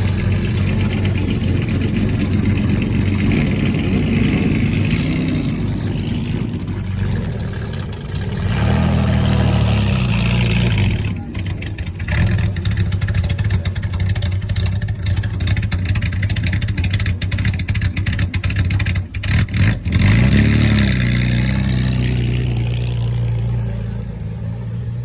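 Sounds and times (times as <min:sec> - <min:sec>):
racing car engines running rough: 0:00.0 - 0:25.0.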